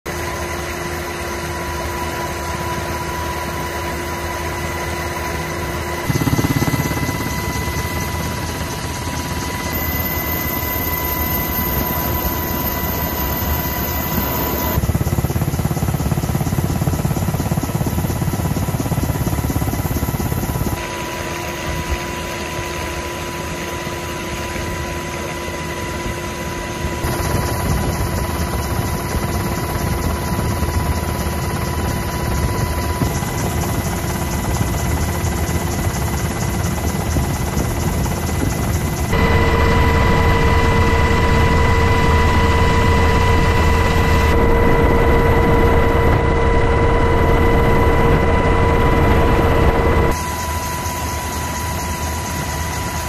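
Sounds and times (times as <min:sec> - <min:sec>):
helicopter engine and rotor noise: 0:00.0 - 0:53.0.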